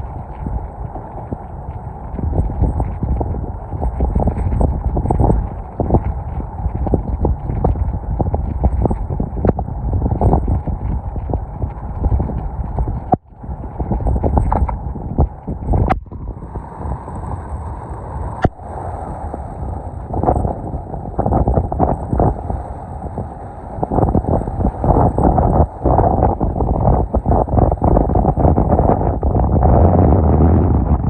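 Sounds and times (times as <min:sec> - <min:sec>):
gusty wind buffeting microphone: 0:00.0 - 0:31.0.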